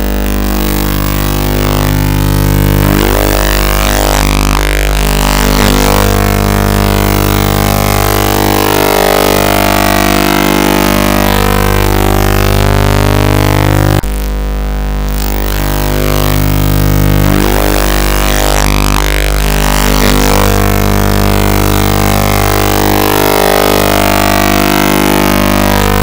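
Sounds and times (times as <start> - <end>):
distorted electronic drone music: 0.0 - 26.0.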